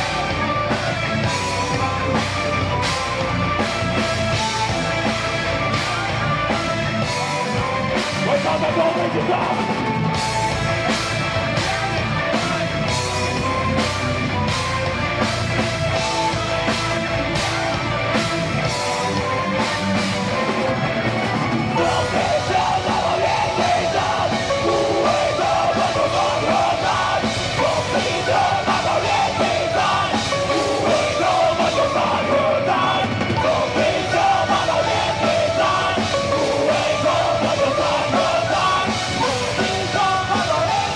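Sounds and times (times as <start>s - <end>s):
distorted electric guitars: 0.0s - 40.9s
pounding drum kit: 0.0s - 40.9s.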